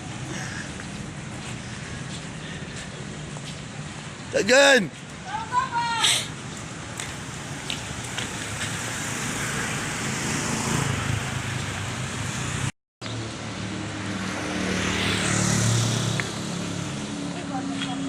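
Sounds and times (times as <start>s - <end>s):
vehicle engine and tyre noise: 0.0s - 18.0s.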